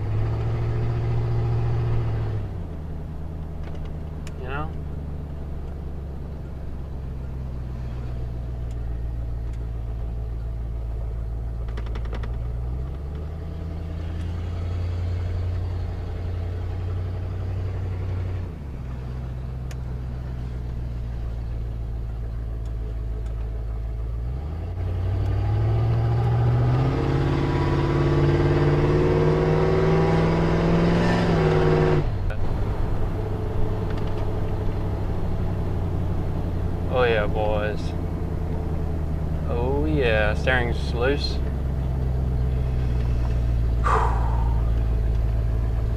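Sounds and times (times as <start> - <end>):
truck engine accelerating: 0.0 - 45.9.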